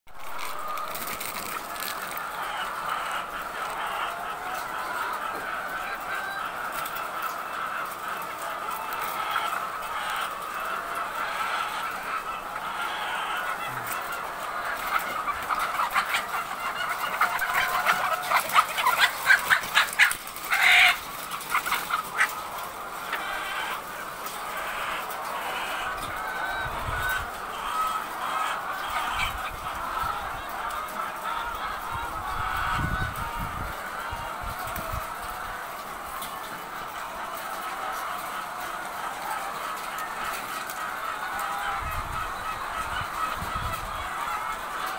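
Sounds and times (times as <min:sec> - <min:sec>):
hens clucking: 0:00.1 - 0:44.9.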